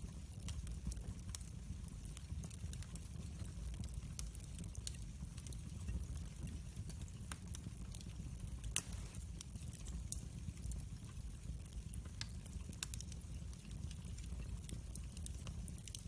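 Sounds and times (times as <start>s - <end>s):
open fire burning: 0.0s - 16.0s.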